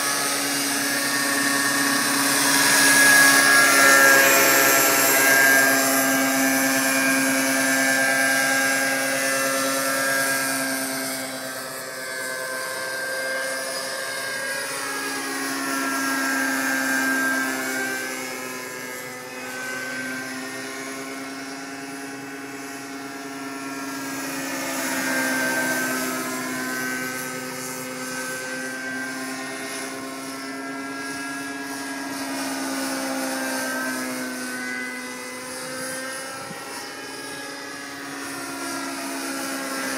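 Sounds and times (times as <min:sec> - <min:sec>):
model helicopter whining: 0:00.0 - 0:39.9.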